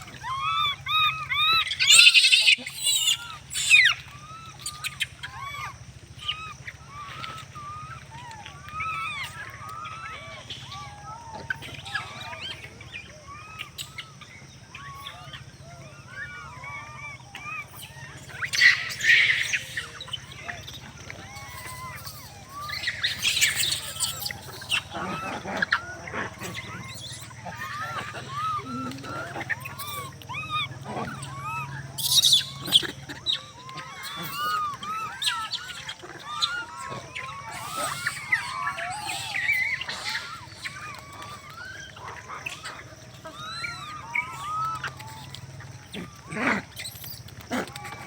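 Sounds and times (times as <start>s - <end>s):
animal crying and squealing: 0.0s - 48.0s.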